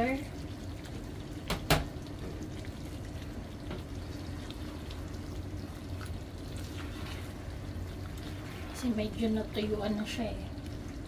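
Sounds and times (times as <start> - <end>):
sauce sizzling and bubbling: 0.0 - 11.0.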